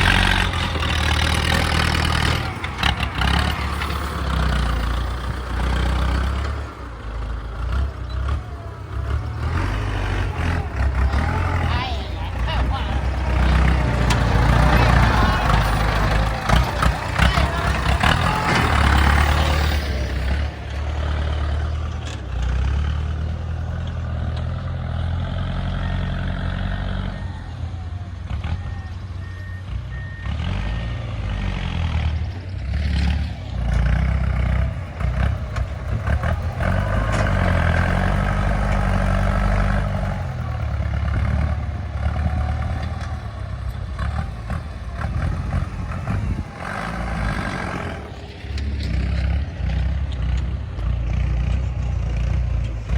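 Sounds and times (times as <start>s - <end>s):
diesel engine revving: 0.0s - 52.9s.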